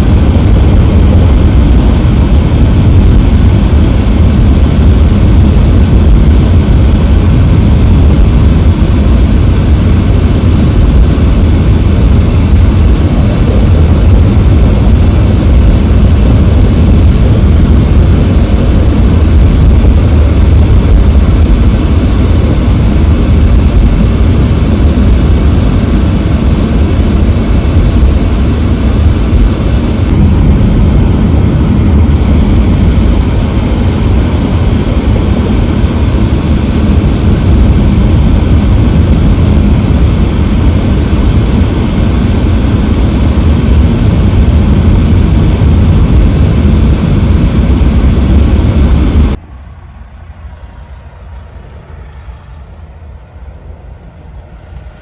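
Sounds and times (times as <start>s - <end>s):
wind buffeting microphone: 0.0s - 49.4s.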